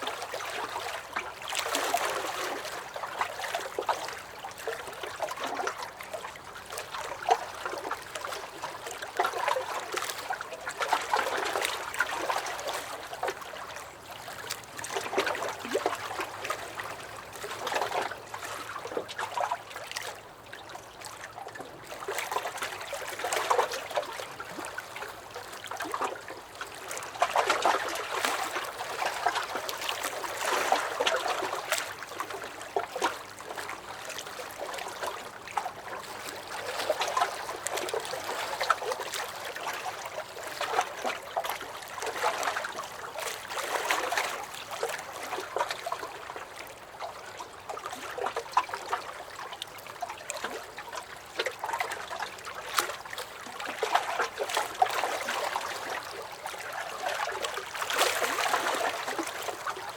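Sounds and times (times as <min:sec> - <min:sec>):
waves lapping against a dock: 0:00.0 - 0:59.9.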